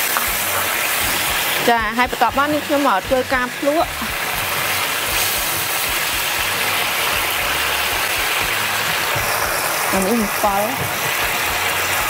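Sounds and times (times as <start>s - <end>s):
sauce sizzling in wok: 0.0s - 12.0s.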